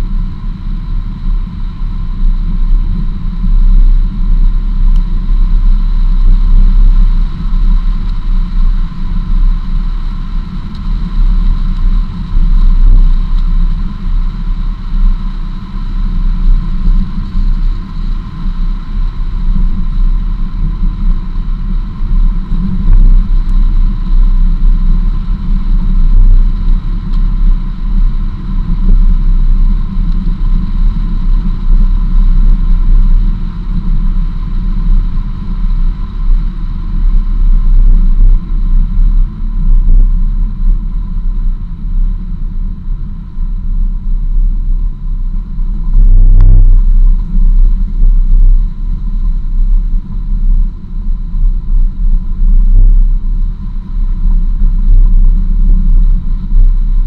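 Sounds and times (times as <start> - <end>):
vehicle driving on gravel road: 0.0 - 52.3.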